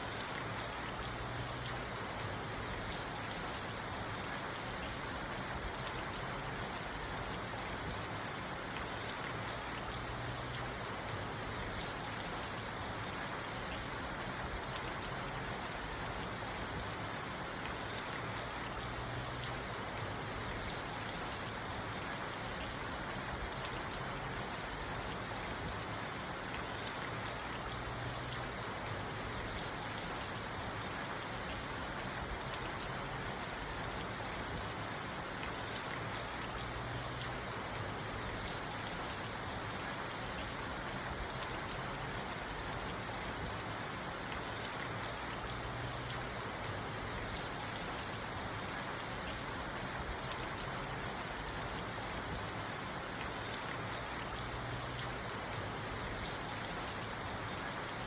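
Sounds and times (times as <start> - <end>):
rain on car roof: 0.2 - 58.0.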